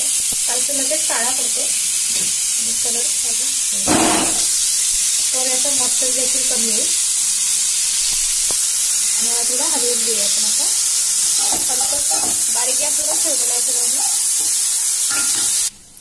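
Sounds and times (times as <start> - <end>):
vegetables sizzling in fat: 0.0 - 16.0.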